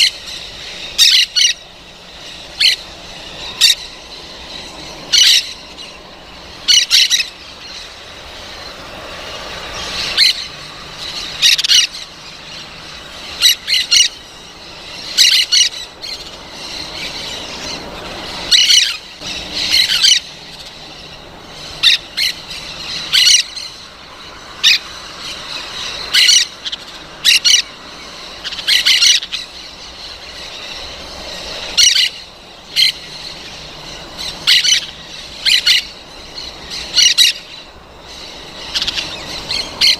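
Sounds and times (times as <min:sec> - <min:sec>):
parrot squawking: 0:00.0 - 0:08.6, 0:09.7 - 0:23.8, 0:24.5 - 0:39.9.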